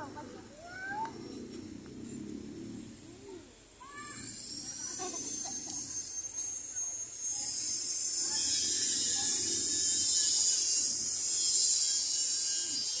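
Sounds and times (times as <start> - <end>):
high-pitched buzzing hiss: 1.3 - 13.0.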